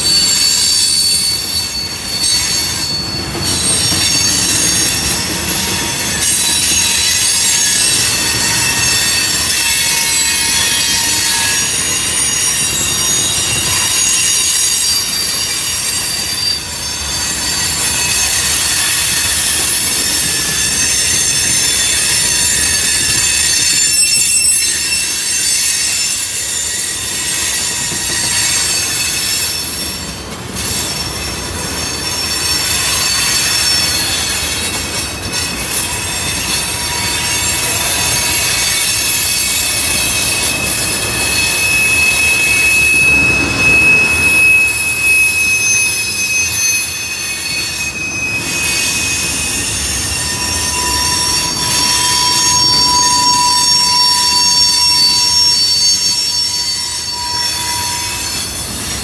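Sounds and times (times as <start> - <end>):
train cars rumbling on rails: 0.0 - 59.0
train wheels squealing: 0.0 - 59.0.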